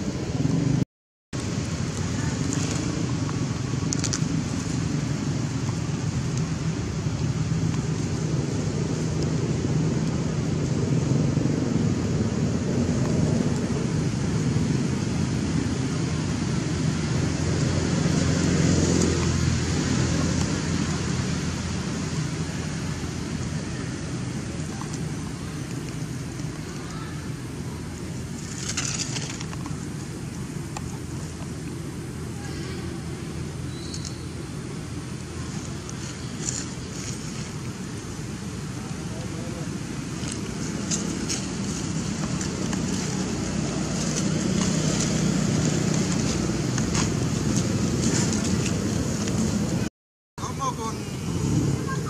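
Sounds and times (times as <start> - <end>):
distant motor traffic rumble: 0.0 - 0.8, 1.4 - 52.0
grass rustling: 1.4 - 49.9.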